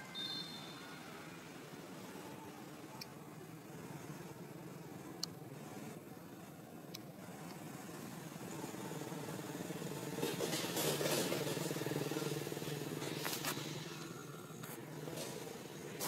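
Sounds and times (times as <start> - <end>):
passing vehicle engine hum: 0.0 - 16.0.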